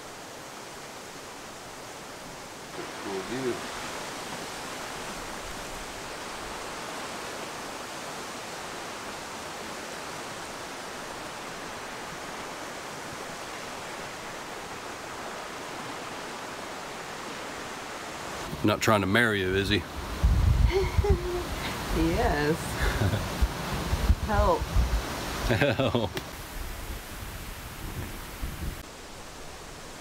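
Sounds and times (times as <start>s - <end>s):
open-air rushing hiss: 0.0s - 30.0s.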